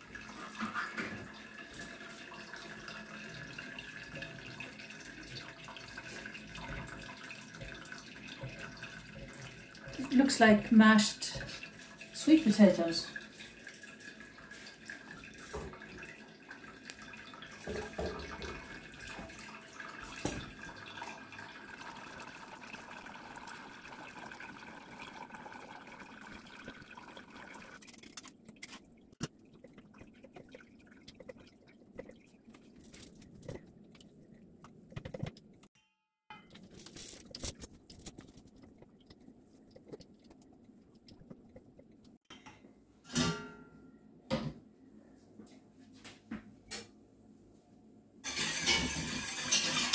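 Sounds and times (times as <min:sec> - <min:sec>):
liquid trickling through cloth: 0:00.0 - 0:34.6, 0:36.6 - 0:42.2.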